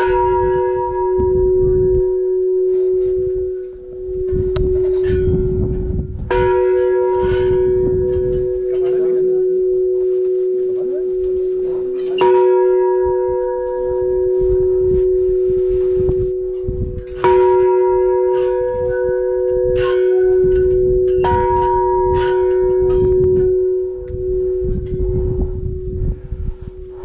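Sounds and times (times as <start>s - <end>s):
large bell ringing: 0.0s - 27.0s.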